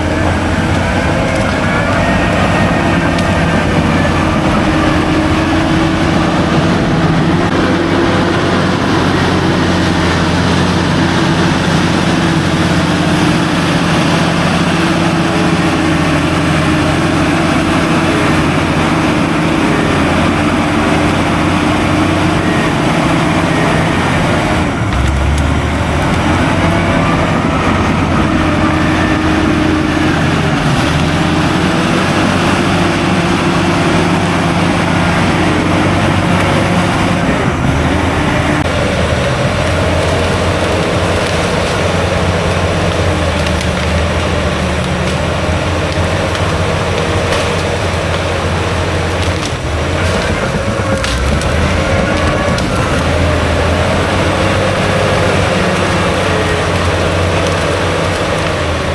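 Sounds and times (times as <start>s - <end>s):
heavy machinery diesel engine: 0.0s - 58.9s.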